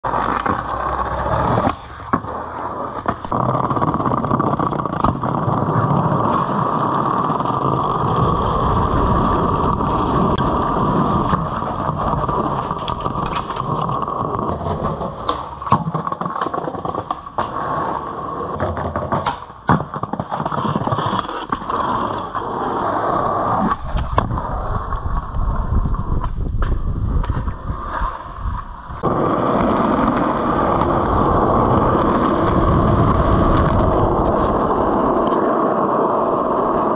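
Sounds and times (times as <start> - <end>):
skateboard clacks: 0.0 - 36.9
skateboard wheels rolling on concrete: 0.0 - 36.9.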